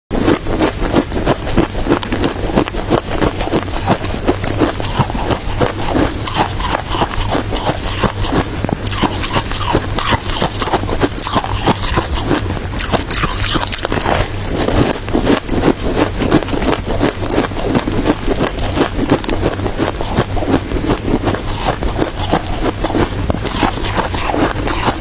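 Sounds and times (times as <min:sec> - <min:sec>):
chewing crunchy ice: 0:00.2 - 0:25.0.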